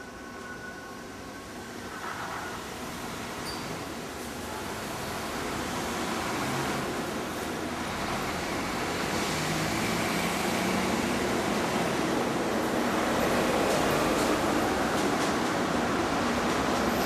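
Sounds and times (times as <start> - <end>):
train rolling noise: 0.0 - 17.0.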